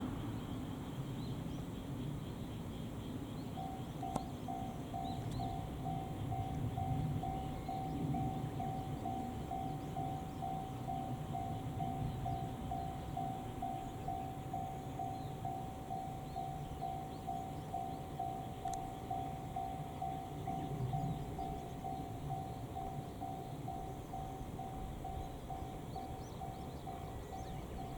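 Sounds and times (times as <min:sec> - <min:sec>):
diesel train rumble: 0:00.0 - 0:27.9
level crossing alarm dinging: 0:03.6 - 0:27.9.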